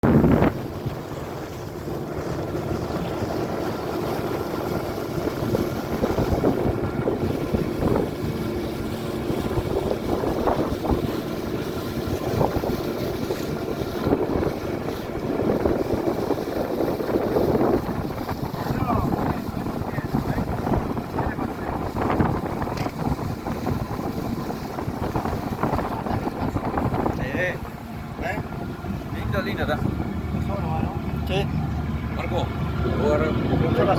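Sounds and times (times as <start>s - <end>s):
gusty wind buffeting microphone: 0.0s - 33.9s.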